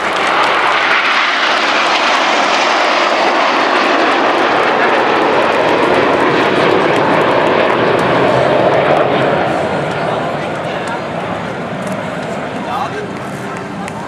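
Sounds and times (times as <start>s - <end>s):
jets flying past: 0.0s - 14.0s.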